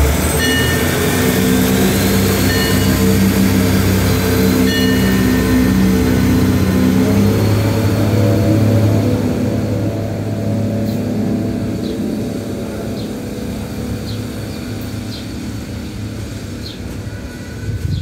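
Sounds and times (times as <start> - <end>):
diesel train engine hum: 0.0 - 18.0.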